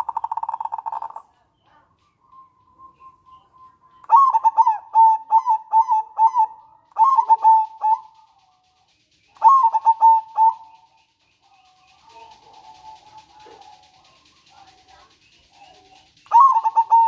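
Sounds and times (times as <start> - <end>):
dove cooing: 0.0 - 1.9, 4.0 - 8.4, 9.4 - 17.0.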